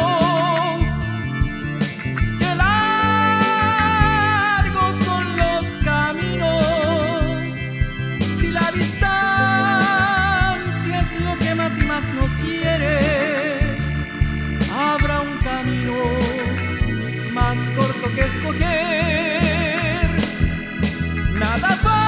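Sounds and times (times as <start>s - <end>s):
band playing ballad: 0.0s - 22.0s.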